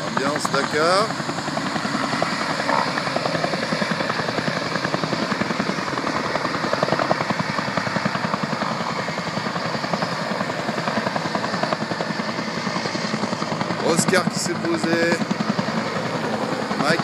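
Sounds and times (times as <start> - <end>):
helicopter rotor chop: 0.0 - 17.0.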